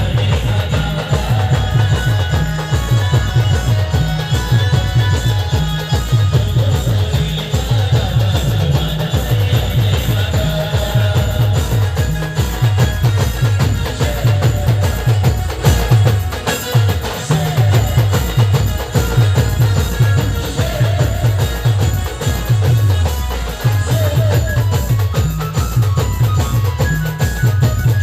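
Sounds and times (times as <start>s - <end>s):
folk dance music by a band: 0.0s - 28.0s
heavy bass drum strokes: 0.0s - 28.0s.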